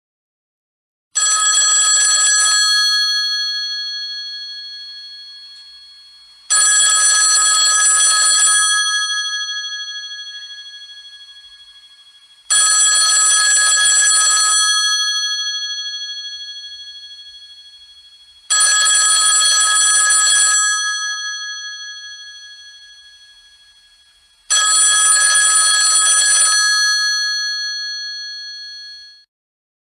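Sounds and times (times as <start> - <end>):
trilling phone ringtone: 1.2 - 29.3.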